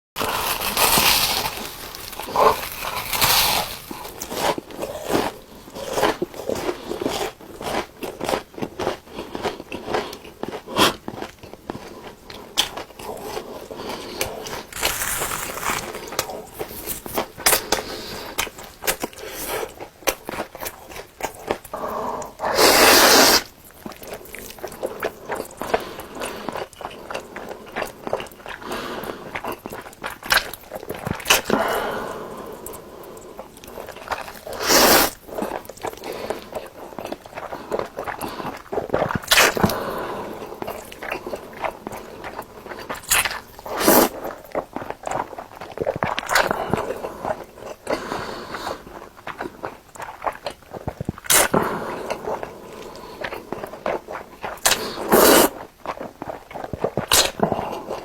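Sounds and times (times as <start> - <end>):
chewing crunchy food: 0.2 - 58.0.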